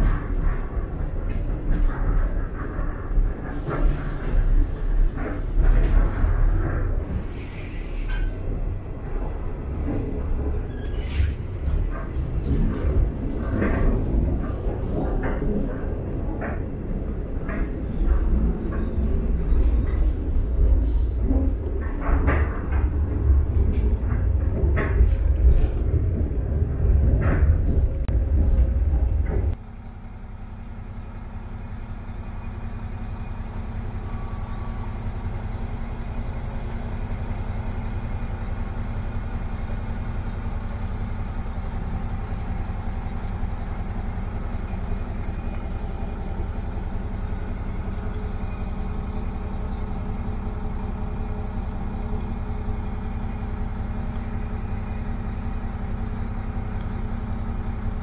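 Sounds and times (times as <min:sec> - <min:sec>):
diesel engine drone: 0:00.0 - 0:58.0
loud low rumble and rattling: 0:00.0 - 0:58.0.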